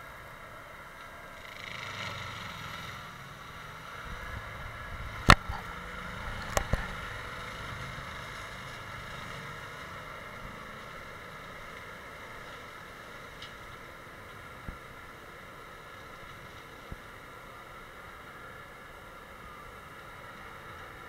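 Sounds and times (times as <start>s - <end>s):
mulcher engine and drum drone: 0.0s - 18.4s.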